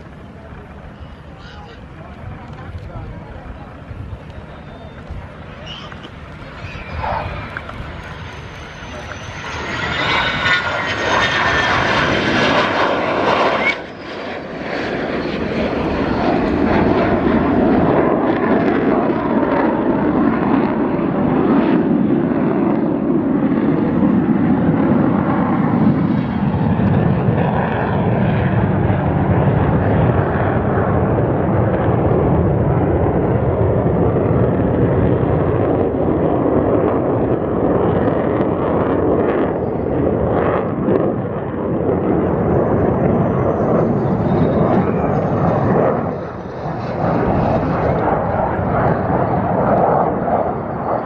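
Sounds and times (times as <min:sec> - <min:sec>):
fighter jet engine roaring: 0:00.0 - 0:51.0
high jet whine falling in pitch: 0:00.0 - 0:51.0.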